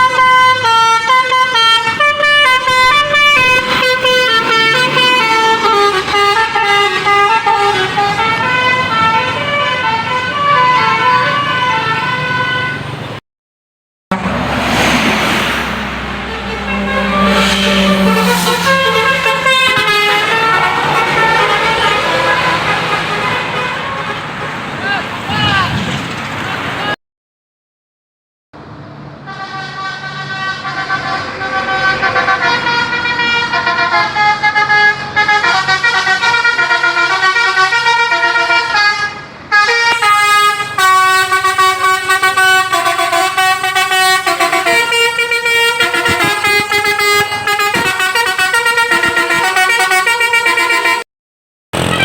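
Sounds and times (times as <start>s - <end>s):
musical bus horn: 0.0s - 13.2s, 16.0s - 24.7s, 29.2s - 51.1s, 51.8s - 52.0s.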